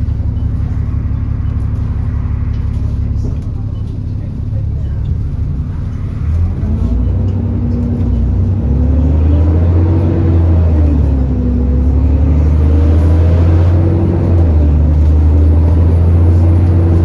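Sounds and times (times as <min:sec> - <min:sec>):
bus diesel engine accelerating: 0:00.0 - 0:17.0.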